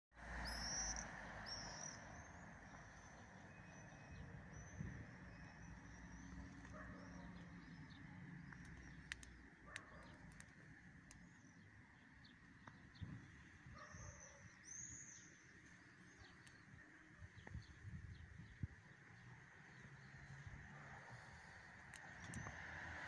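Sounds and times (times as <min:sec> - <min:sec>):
faint birdsong: 0:00.2 - 0:23.0.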